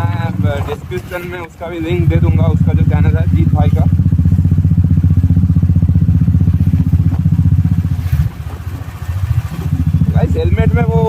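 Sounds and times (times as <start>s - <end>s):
motorcycle engine thumping: 0.0s - 1.2s, 2.0s - 11.0s.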